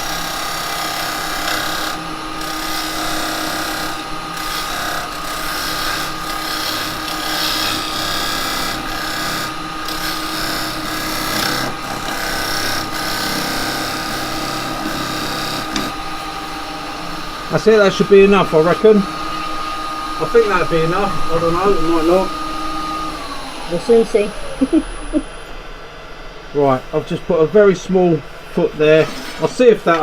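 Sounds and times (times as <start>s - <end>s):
cutter scraping wood: 0.0s - 24.0s, 28.6s - 30.0s
wood lathe motor whine: 0.0s - 30.0s.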